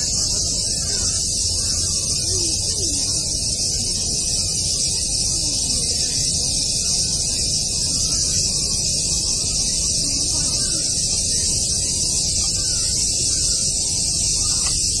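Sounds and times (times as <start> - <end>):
cicada chorus droning: 0.0 - 15.0.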